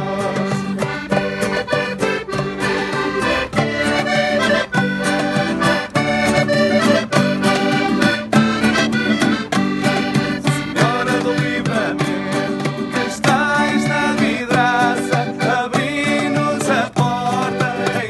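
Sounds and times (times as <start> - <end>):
button accordion folk tune: 0.0 - 18.0
hand drum beat: 0.0 - 18.0
strummed acoustic guitar: 0.0 - 18.0.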